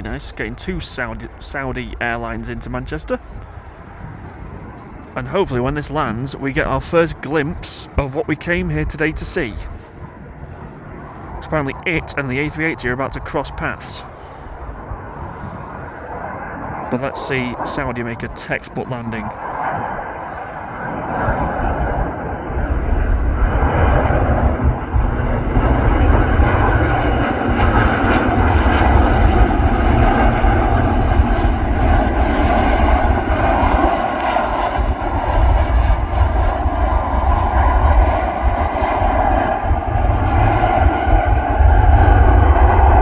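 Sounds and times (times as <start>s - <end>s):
jet engine rumble: 0.0s - 43.0s.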